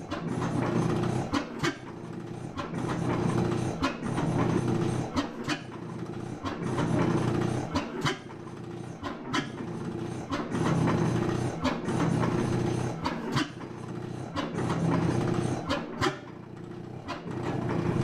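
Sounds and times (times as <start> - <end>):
gas engine chuffing: 0.0 - 18.0.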